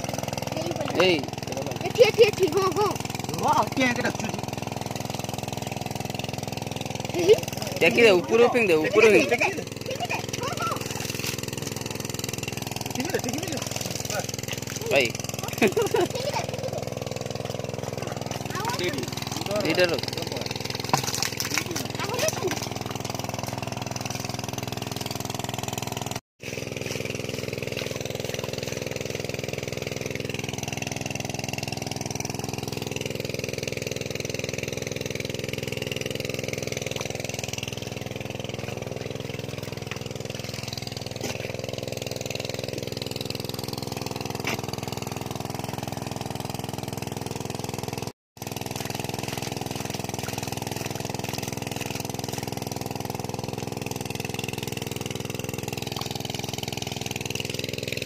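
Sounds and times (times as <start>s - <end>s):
motor engine running: 0.0s - 58.0s.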